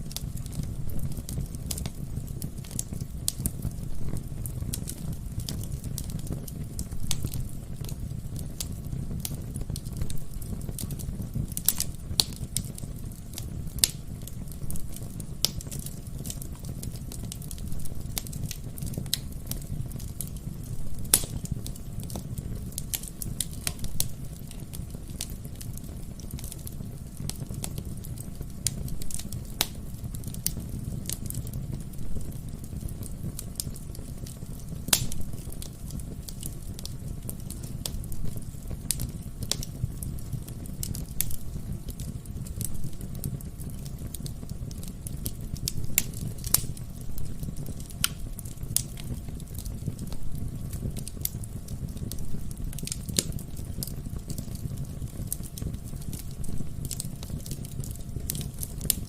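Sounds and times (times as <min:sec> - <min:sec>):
fire rumbling: 0:00.0 - 0:59.0
logs crackling and popping: 0:00.0 - 0:59.0.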